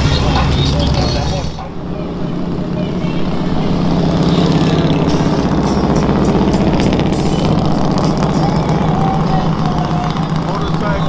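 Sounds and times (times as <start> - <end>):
exhaust crackle: 0.0 - 11.0
motorcycles riding past: 0.0 - 11.0.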